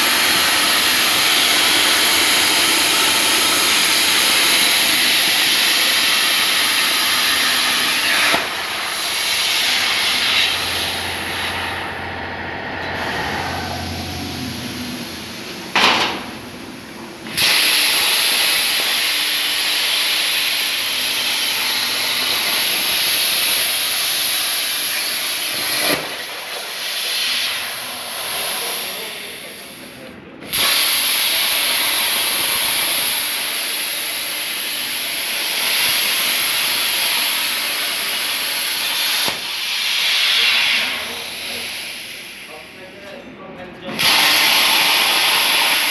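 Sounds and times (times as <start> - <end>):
plasma torch hissing: 0.0 - 12.2, 17.3 - 42.7, 44.0 - 45.9.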